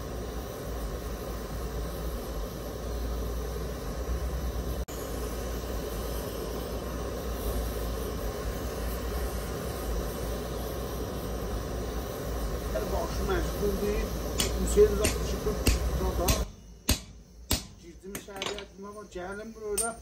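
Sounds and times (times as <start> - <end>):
gas flames roaring and hissing: 0.0 - 20.0.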